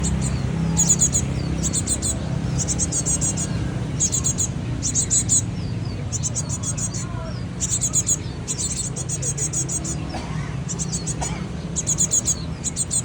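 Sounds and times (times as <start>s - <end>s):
bird chicks chirping: 0.0s - 13.0s
steady low rumble: 0.0s - 13.0s.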